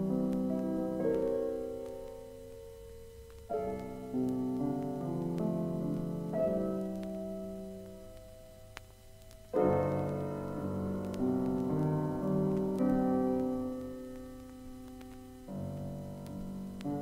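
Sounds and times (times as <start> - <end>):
solo piano chords: 0.0 - 17.0
vinyl record click: 0.0 - 17.0.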